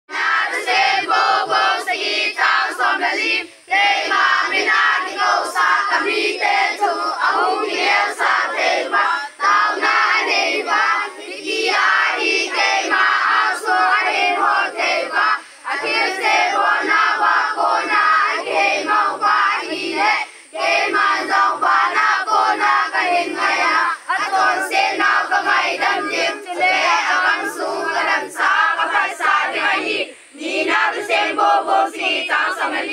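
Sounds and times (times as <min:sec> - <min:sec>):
children praying aloud together: 0:00.1 - 0:32.9.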